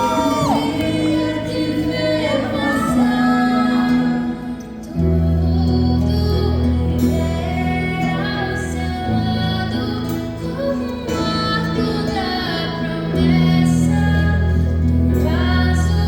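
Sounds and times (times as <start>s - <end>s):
live band playing: 0.0s - 16.0s
woman singing a slow ballad: 0.0s - 16.0s.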